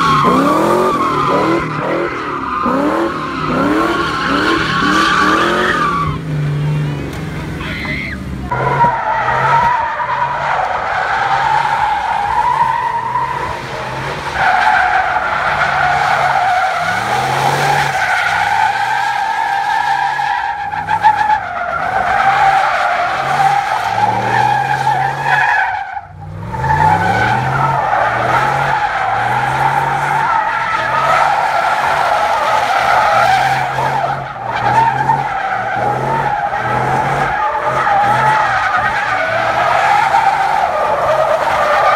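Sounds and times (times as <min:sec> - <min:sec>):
car engine revving: 0:00.0 - 0:41.9
tires squealing: 0:00.0 - 0:41.9.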